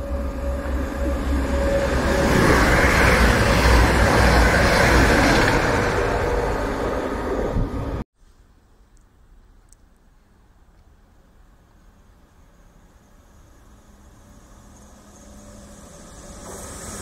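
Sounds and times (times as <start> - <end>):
diesel train passing at speed: 0.0 - 8.0, 11.0 - 17.0.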